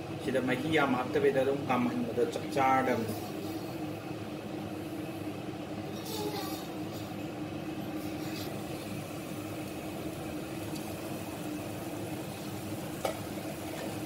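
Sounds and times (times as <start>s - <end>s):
cooling fan hum: 0.0s - 14.0s
pan simmering: 2.3s - 14.0s.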